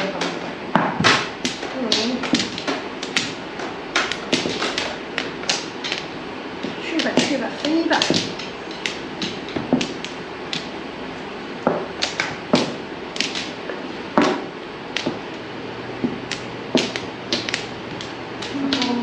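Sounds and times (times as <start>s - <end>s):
mahjong tiles clacking: 0.0s - 19.0s.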